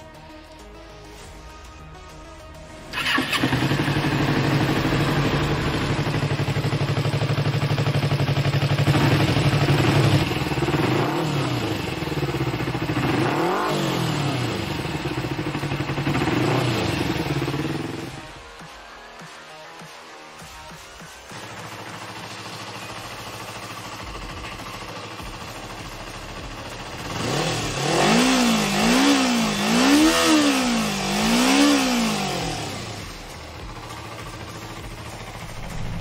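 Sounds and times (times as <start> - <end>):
motorcycle engine revving: 2.9 - 18.4, 21.3 - 36.0.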